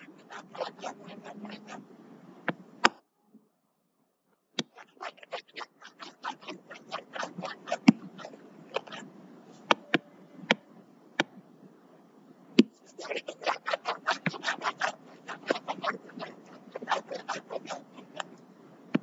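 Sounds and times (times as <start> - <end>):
stylus tapping and scratching on screen: 0.0 - 3.0, 4.6 - 10.6, 11.2 - 11.4, 12.6 - 19.0.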